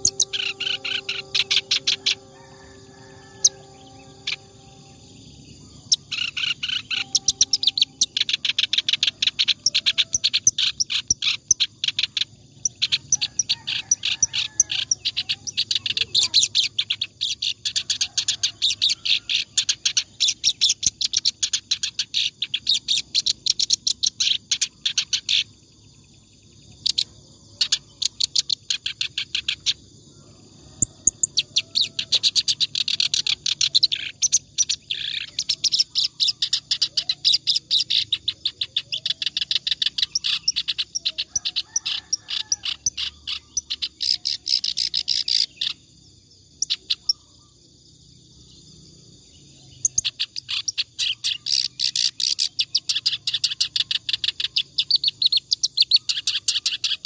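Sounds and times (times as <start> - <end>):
reed warbler chattering song: 0.0 - 30.0, 30.6 - 57.0.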